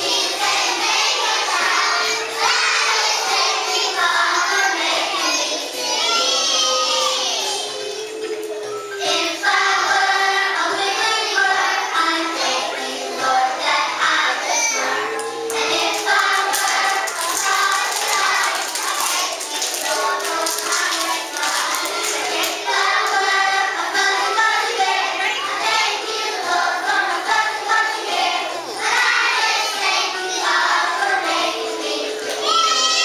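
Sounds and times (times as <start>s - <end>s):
children singing together: 0.0s - 33.0s
musical accompaniment: 1.4s - 32.7s.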